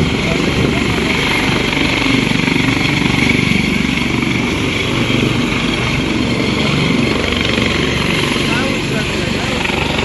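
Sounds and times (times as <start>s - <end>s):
helicopter rotor chop: 0.0s - 10.0s.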